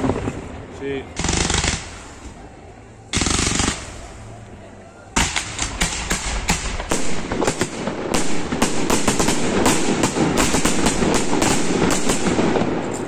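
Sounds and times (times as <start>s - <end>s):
fireworks bursts and bangs: 0.0s - 2.4s, 3.1s - 4.4s, 5.2s - 13.0s
fireworks crackle: 0.0s - 2.5s, 3.1s - 4.5s, 5.1s - 13.0s.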